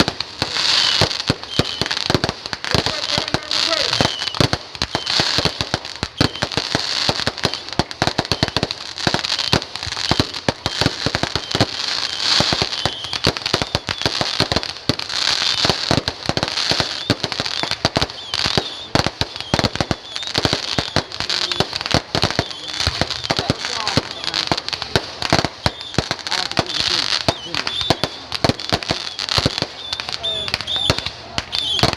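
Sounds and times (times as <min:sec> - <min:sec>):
firecrackers banging and crackling: 0:00.0 - 0:31.9.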